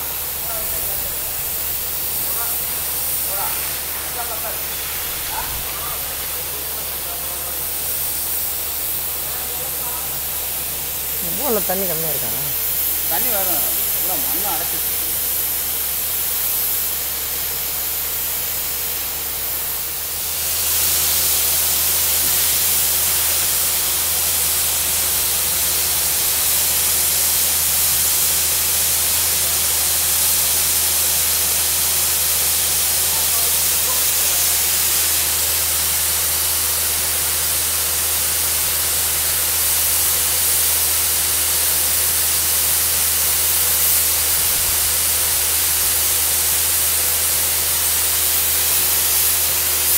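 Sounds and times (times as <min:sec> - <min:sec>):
compressed air blowing water spray: 0:00.0 - 0:49.9.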